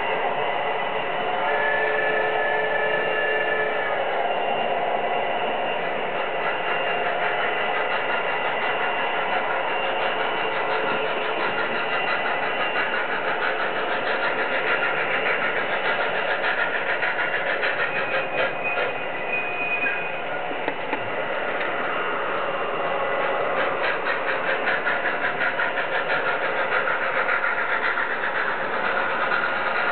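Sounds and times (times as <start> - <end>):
model train motor whir: 0.0 - 29.9
train wheels clattering: 5.3 - 29.9.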